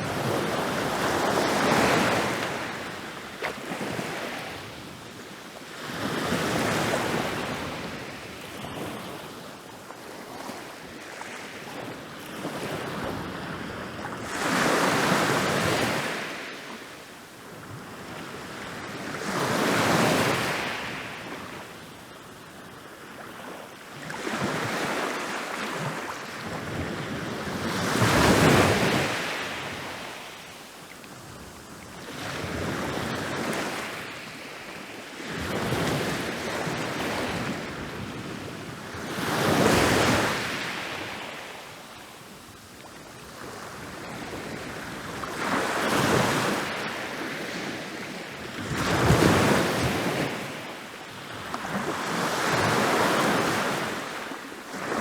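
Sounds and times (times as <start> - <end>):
ocean waves breaking on beach: 0.0 - 9.3, 9.9 - 55.0.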